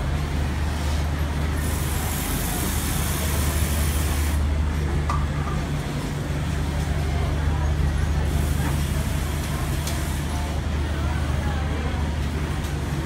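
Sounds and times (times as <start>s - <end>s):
industrial sewing machines running: 0.0s - 5.0s, 5.7s - 13.0s.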